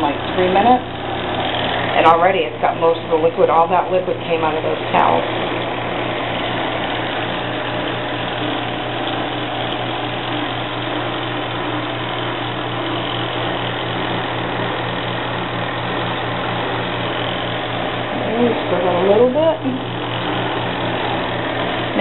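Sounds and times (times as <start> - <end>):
spin dryer motor hum with throb: 0.0 - 22.0.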